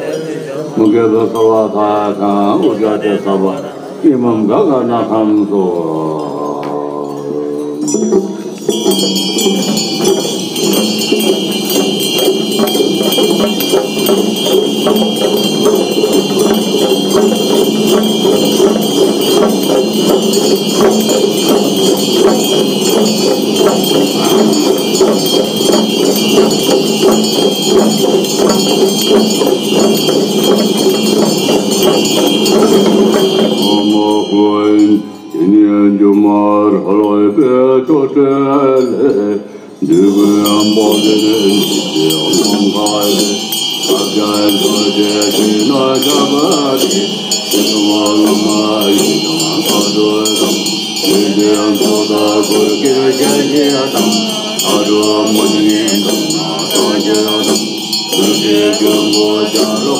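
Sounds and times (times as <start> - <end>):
chanting: 0.0 - 59.9
hand bells ringing: 0.0 - 59.9
hand drums rattling: 0.0 - 59.9.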